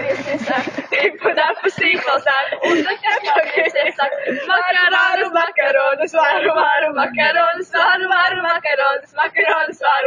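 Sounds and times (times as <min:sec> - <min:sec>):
young voices singing together: 0:00.0 - 0:10.0.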